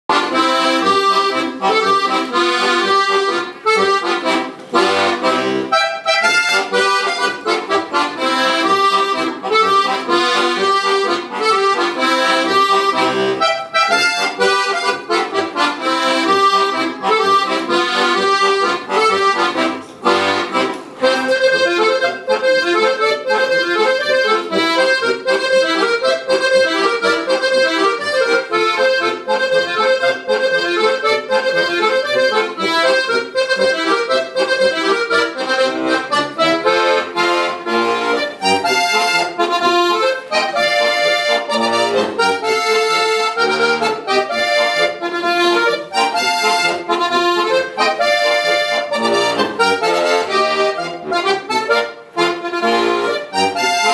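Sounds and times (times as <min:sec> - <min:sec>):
button accordion playing lively tune: 0:00.0 - 0:53.9.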